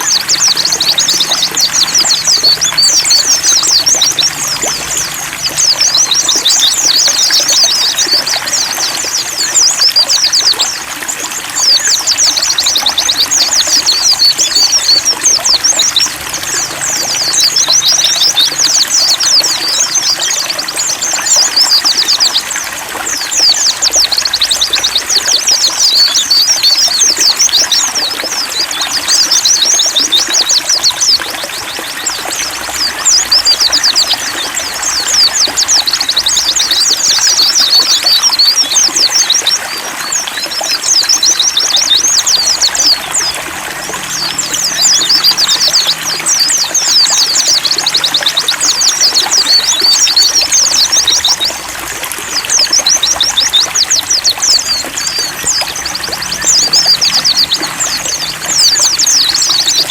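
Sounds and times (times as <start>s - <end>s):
birds twittering: 0.0s - 59.9s
water trickling: 0.0s - 59.9s.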